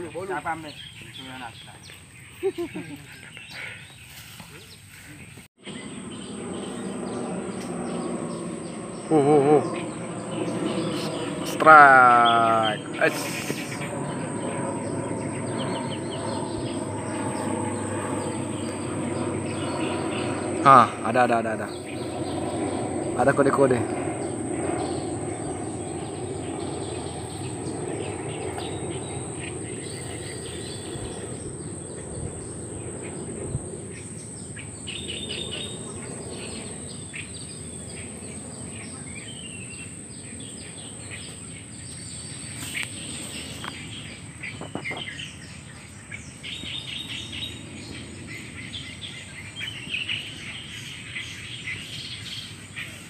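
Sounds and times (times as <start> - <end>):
birds chirping: 0.0 - 53.0
steady high-pitched whine: 0.0 - 53.0.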